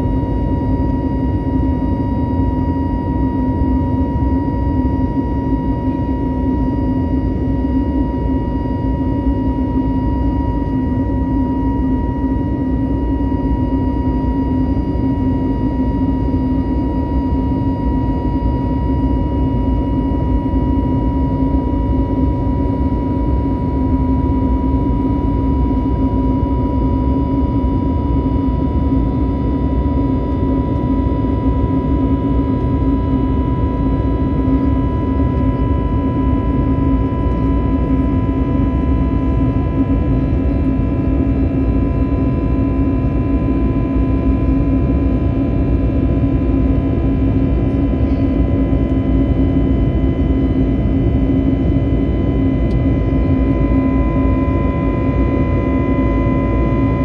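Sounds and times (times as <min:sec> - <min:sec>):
constant low hum: 0:00.0 - 0:57.0
high whine tone: 0:00.0 - 0:57.0
jet engine and airflow rumble: 0:00.0 - 0:57.0.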